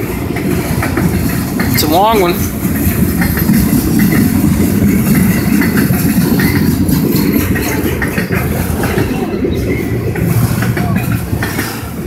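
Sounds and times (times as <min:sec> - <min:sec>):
steel train wheels rumbling on rail: 0:00.0 - 0:12.0
light clicks and clacks: 0:00.3 - 0:09.3, 0:10.1 - 0:12.0.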